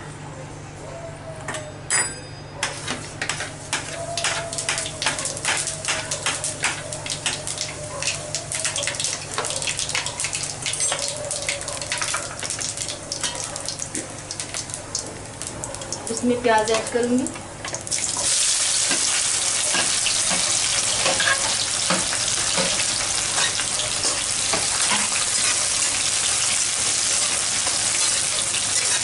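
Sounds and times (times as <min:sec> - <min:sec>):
seeds crackling in hot oil: 0:03.6 - 0:29.0.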